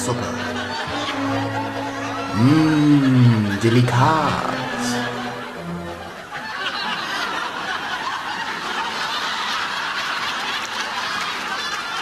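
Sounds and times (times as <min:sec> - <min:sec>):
audience applauding: 0:00.0 - 0:12.0
audience laughing: 0:00.0 - 0:12.0.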